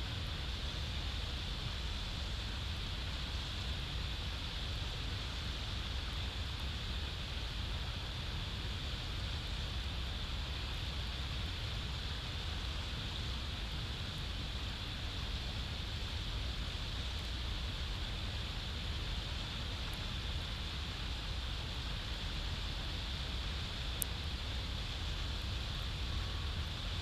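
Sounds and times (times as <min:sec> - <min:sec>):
wind rumble and hiss: 0:00.0 - 0:27.0.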